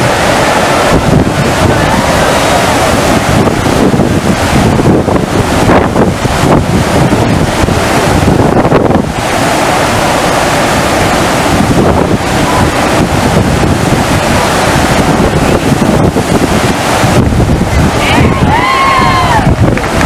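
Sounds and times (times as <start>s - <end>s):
water rushing up ramp: 0.0s - 20.0s
wind buffeting microphone: 0.0s - 20.0s.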